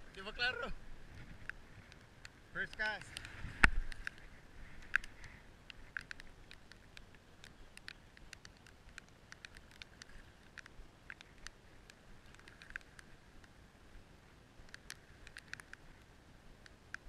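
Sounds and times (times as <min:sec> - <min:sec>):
raindrops ticking: 0:00.0 - 0:13.6, 0:14.6 - 0:17.0
faint rain hiss: 0:00.0 - 0:17.0.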